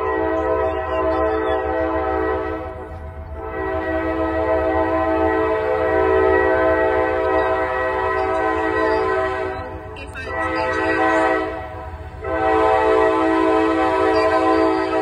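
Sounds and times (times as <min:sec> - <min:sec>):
locomotive air horn blasts: 0:00.0 - 0:15.0.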